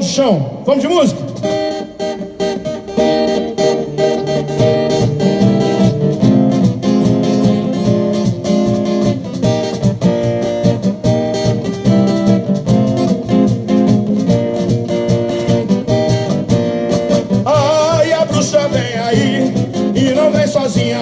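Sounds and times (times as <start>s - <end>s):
band playing carnival march: 0.8s - 21.0s
strummed acoustic guitar: 1.1s - 21.0s.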